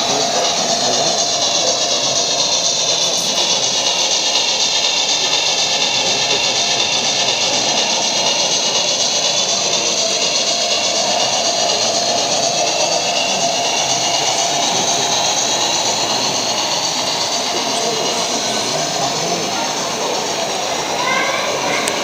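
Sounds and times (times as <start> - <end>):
even hum: 0.0 - 22.0
model train high-pitched whine: 0.0 - 22.0.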